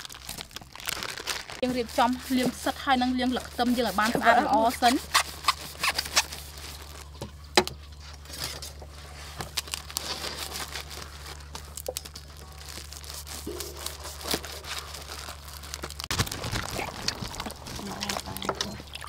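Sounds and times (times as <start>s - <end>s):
plastic packaging crinkling and tearing: 0.0s - 7.2s, 8.2s - 19.0s.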